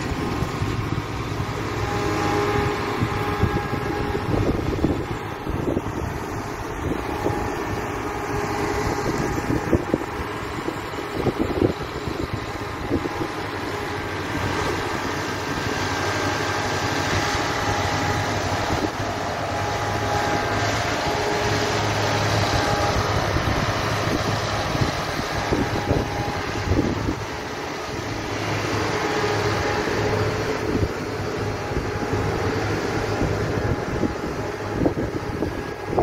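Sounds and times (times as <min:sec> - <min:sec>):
diesel engines running: 0:00.0 - 0:36.0.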